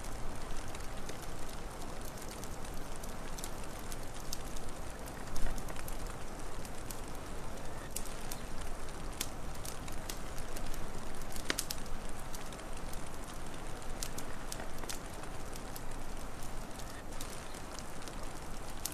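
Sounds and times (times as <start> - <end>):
low rumble and hiss: 0.0 - 18.9
wood fire crackling: 0.0 - 18.9.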